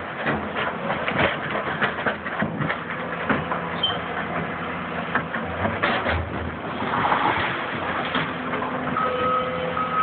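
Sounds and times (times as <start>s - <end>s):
knocks and clatter: 0.0s - 4.5s, 5.1s - 9.0s
excavator engine drone: 0.0s - 10.0s.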